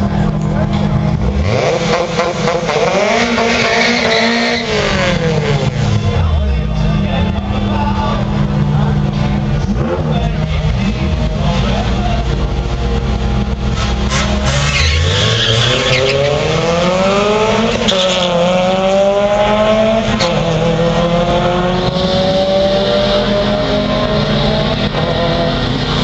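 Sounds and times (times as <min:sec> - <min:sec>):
cars idling: 0:00.0 - 0:26.0
drag racing cars accelerating: 0:00.0 - 0:26.0.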